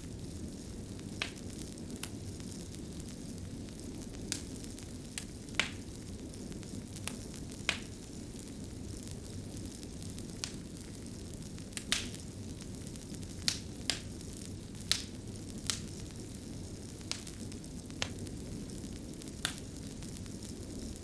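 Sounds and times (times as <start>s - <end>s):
fire crackling: 0.0s - 21.0s
sharp fire pops: 0.0s - 21.0s.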